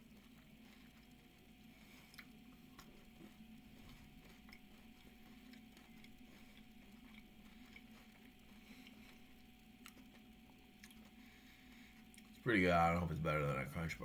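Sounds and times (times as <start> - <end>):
chewing crispy chocolate: 0.0 - 13.2
faint hum: 0.0 - 14.0.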